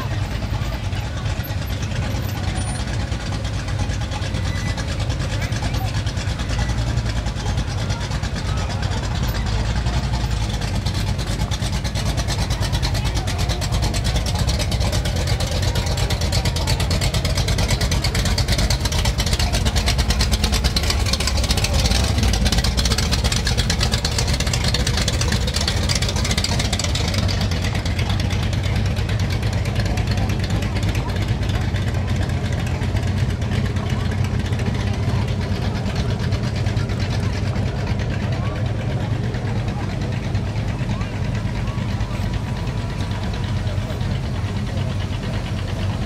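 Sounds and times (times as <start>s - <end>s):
car engines rumbling: 0.0s - 46.0s.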